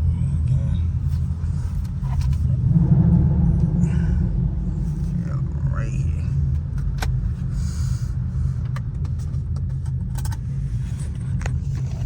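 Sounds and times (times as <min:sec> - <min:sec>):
low car rumble: 0:00.0 - 0:12.0.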